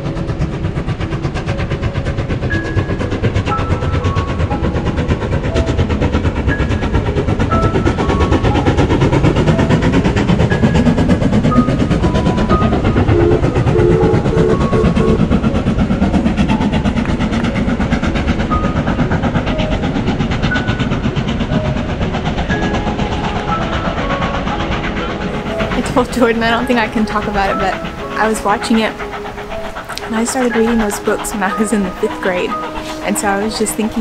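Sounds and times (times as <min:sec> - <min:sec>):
train wheels clattering on rails: 0:00.0 - 0:34.0.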